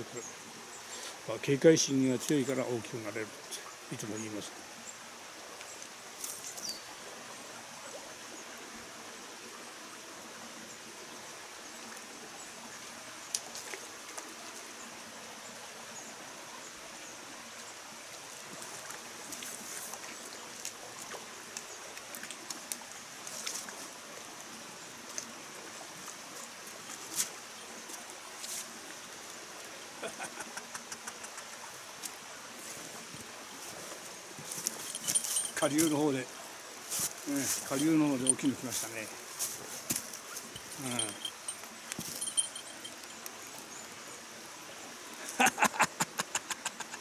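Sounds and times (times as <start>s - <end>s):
mountain stream running: 0.0s - 47.0s.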